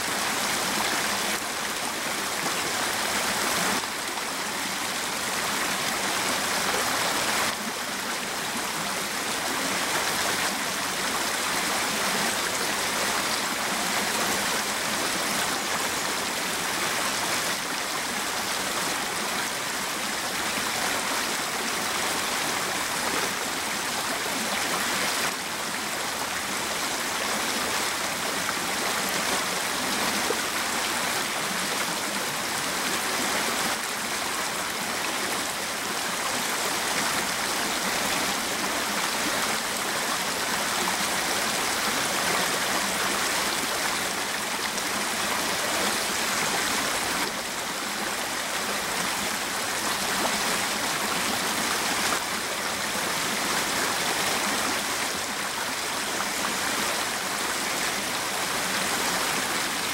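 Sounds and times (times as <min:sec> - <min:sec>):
brook babbling over a log: 0:00.0 - 0:59.9.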